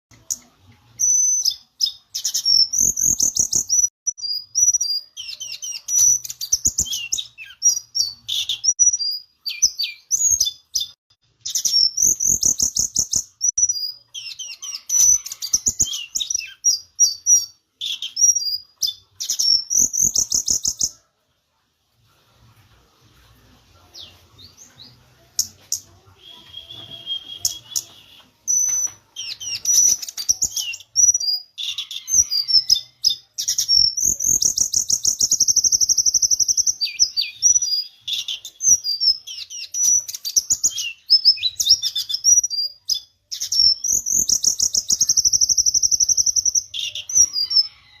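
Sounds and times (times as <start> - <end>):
songbird singing trills: 0.1 - 21.0, 23.9 - 48.0.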